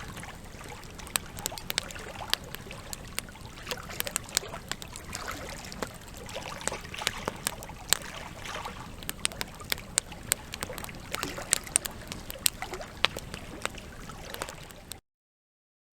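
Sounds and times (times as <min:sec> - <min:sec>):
campfire crackling and popping: 0:00.0 - 0:15.0
flames hissing: 0:00.0 - 0:15.0.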